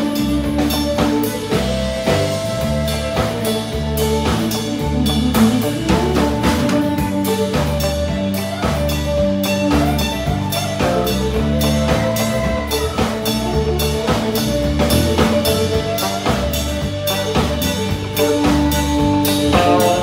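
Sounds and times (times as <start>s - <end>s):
electric bass: 0.0s - 20.0s
fiddle bowed notes: 0.0s - 20.0s
steady drum beat: 0.0s - 20.0s.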